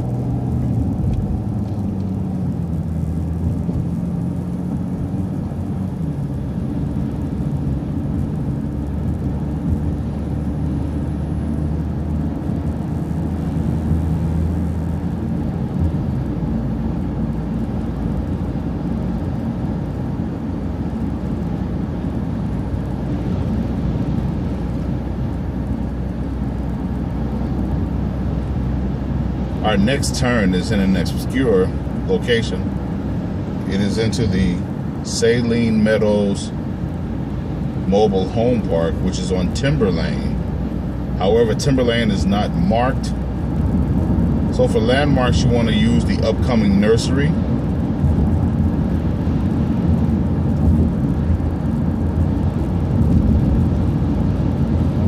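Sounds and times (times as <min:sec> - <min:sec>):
bus engine accelerating: 0:00.0 - 0:55.0
road noise: 0:00.0 - 0:55.0.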